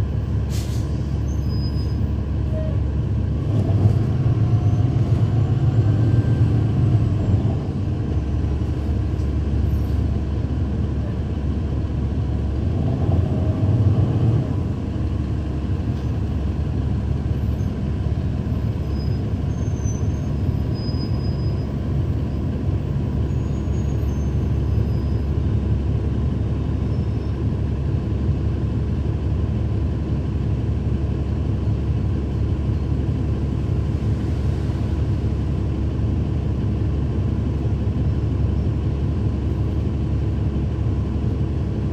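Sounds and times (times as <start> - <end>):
bus diesel engine droning: 0.0 - 41.9.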